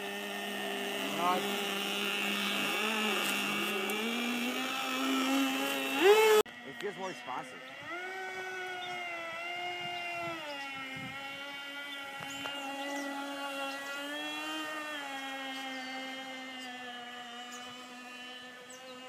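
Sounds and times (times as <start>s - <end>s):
model boat engine buzzing: 0.0s - 19.0s.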